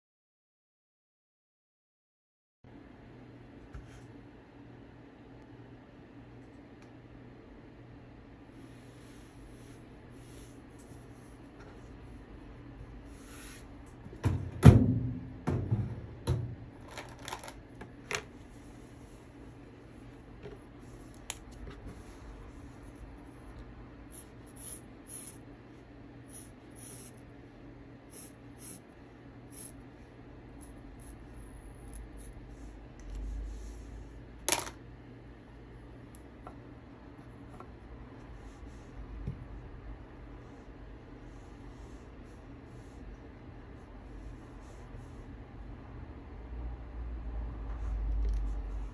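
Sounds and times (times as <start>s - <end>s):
low steady hum: 2.7s - 48.9s.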